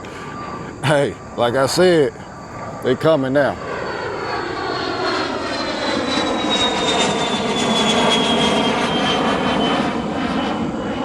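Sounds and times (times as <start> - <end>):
airplane engine flying past: 0.0 - 11.0
high falling whine: 0.0 - 11.0.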